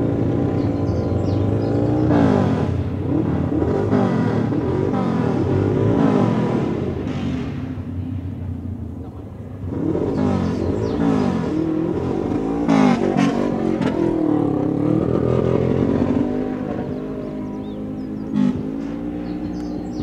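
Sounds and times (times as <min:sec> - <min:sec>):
motorcycle engine revving: 0:00.0 - 0:07.9, 0:09.1 - 0:20.0.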